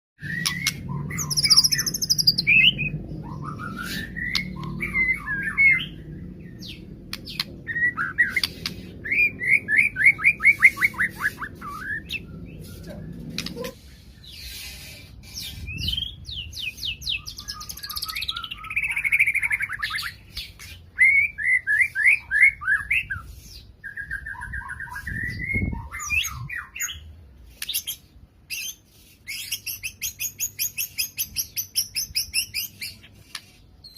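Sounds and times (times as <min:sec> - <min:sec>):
songbird singing: 0:00.2 - 0:33.9.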